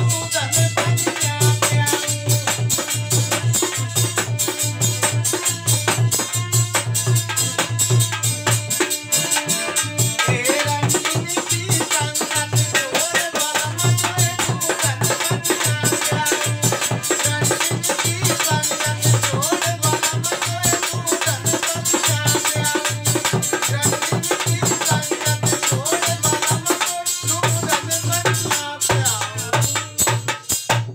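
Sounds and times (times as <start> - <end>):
harmonium melody: 0.0 - 30.5
hand drum beating fast rhythm: 0.0 - 30.9.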